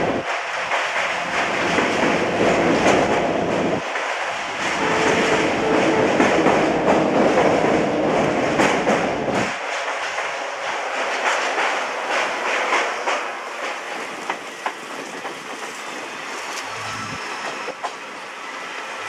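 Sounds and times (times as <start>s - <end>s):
wheels clicking over rail joints: 0.0s - 18.0s
train rolling noise and wind: 0.0s - 19.0s.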